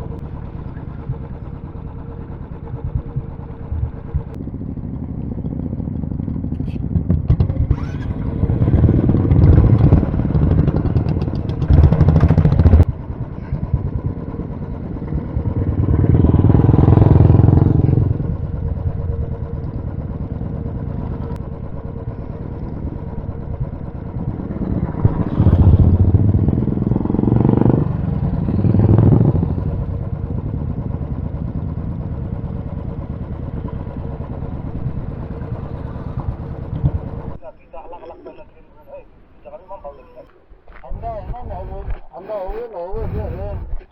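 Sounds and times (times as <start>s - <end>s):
motorcycles riding past: 0.0s - 37.4s
rumble of motorcycle engines: 0.0s - 43.9s.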